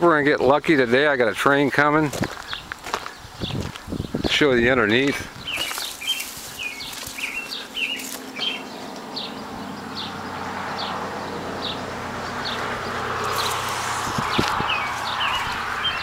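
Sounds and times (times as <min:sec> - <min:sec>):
songbird chirping: 0:01.4 - 0:16.0.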